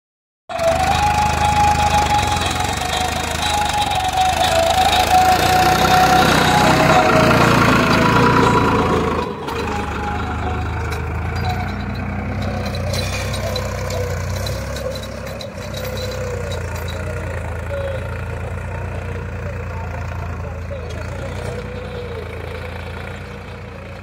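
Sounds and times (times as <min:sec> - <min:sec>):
tractor engine running: 0:00.5 - 0:24.0.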